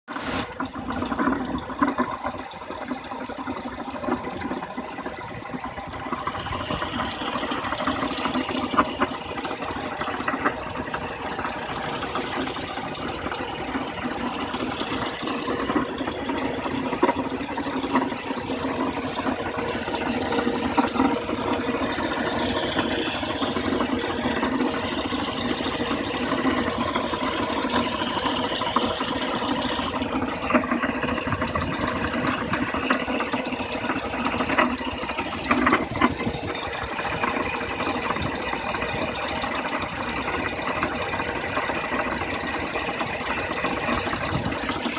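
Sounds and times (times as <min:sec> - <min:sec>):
car engine idling: 0:00.0 - 0:44.9
fast mechanical ticking: 0:00.2 - 0:44.9.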